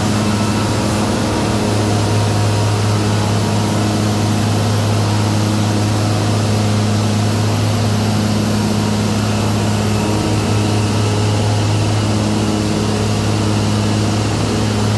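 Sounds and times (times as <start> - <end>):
heavy diesel machinery drone: 0.0 - 14.9.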